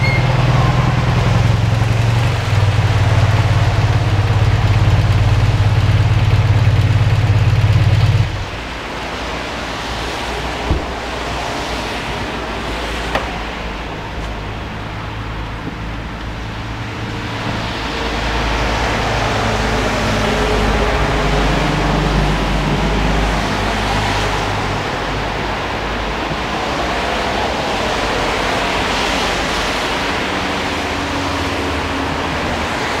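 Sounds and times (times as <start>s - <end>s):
low engine hum: 0.0s - 26.7s.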